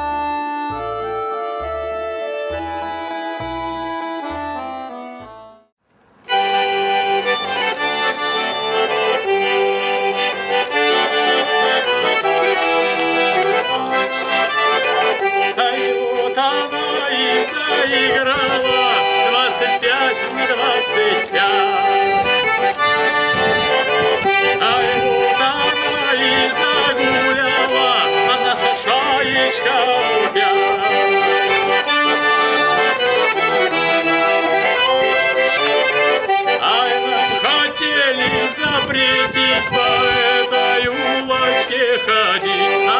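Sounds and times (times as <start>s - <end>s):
button accordion playing folk tune: 0.0s - 42.9s.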